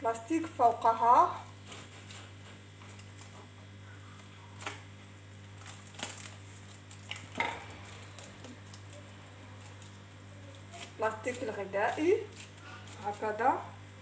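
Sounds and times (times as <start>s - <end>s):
cling film crinkling: 1.5s - 13.5s.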